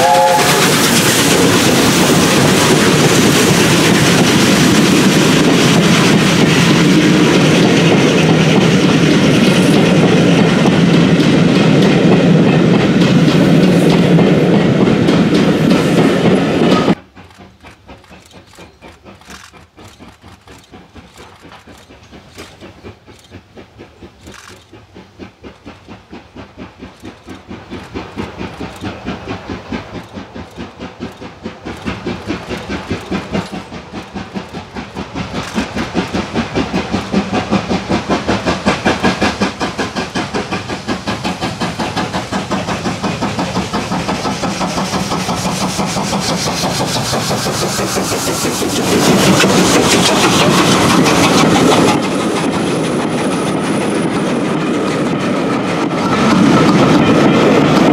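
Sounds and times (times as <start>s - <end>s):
steam locomotive chuffing: 0.0s - 57.9s
train wheels clattering over rail joints: 0.0s - 57.9s.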